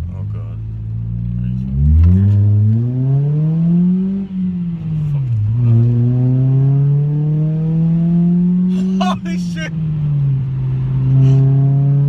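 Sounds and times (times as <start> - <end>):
car engine accelerating: 0.1 - 8.8, 9.7 - 12.0.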